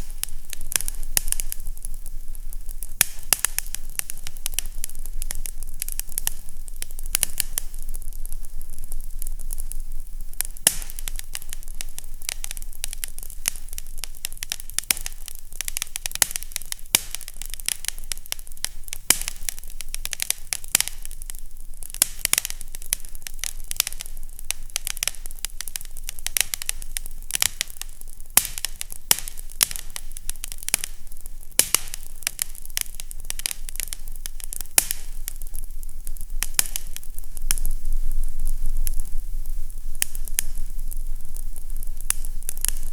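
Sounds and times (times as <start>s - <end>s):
fire crackling and popping: 0.0s - 42.9s
steady hiss: 0.0s - 42.9s.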